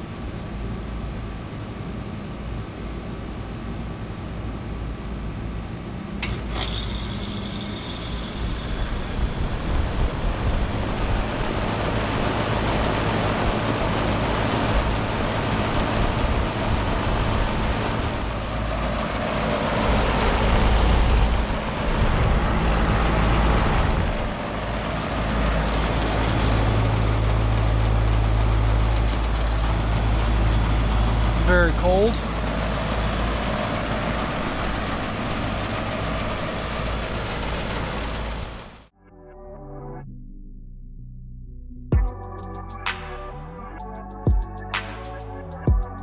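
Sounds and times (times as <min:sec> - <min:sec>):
condenser fan noise: 0:00.0 - 0:38.8
heat pump compressor hum: 0:00.0 - 0:38.8.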